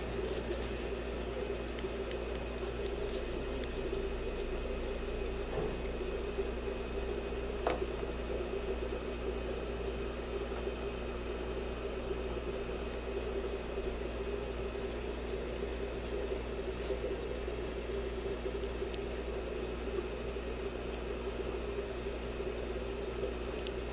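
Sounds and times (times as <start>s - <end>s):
aquarium air pump humming: 0.0s - 23.9s.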